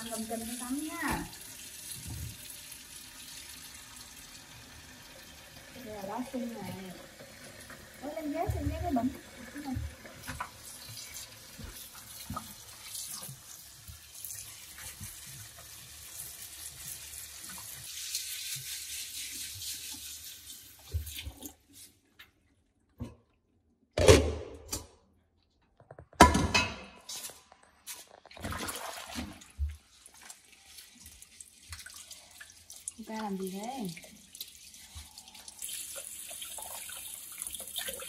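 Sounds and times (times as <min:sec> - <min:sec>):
loud washing noises: 0:00.0 - 0:22.1, 0:27.9 - 0:38.0.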